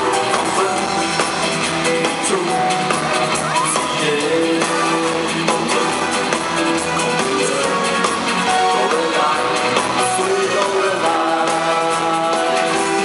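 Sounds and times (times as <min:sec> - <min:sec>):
man singing: 0:00.0 - 0:13.0
rock band playing: 0:00.0 - 0:13.0.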